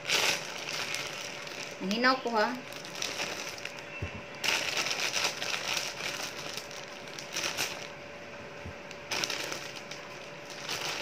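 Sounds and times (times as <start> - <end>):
thin plastic rustling and crinkling: 0.0 - 8.0, 8.7 - 11.0.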